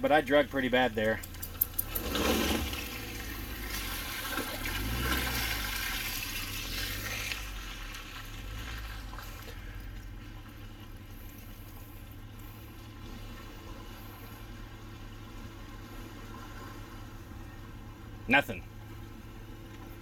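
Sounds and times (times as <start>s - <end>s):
low engine sound: 0.0s - 20.0s
water sloshing and splashing: 0.7s - 20.0s.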